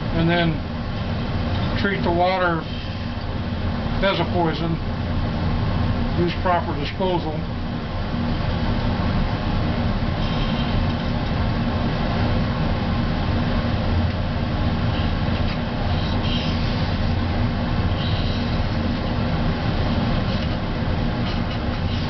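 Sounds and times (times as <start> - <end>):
exhaust fan whooshing: 0.0 - 22.0.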